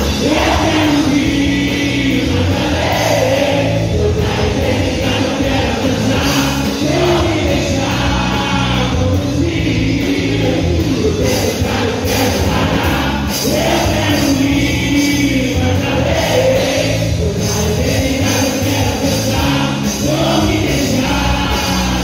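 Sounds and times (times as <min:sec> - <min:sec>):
upbeat worship song group singing: 0:00.0 - 0:22.0.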